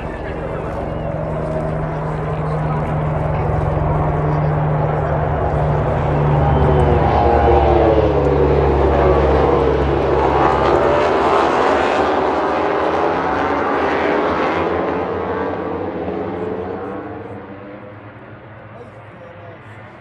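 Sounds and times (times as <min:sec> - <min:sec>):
racing motorcycles passing: 0:00.0 - 0:18.8.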